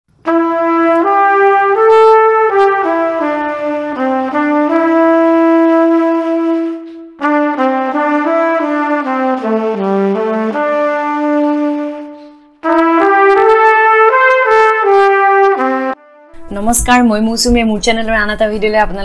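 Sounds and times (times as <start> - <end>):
brass-like melody: 0.1 - 17.5.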